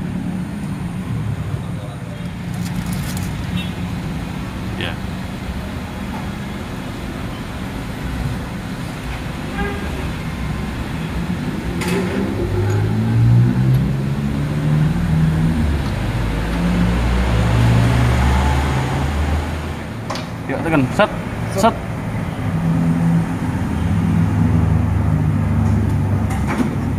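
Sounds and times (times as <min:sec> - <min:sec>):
background traffic: 0:00.0 - 0:26.9.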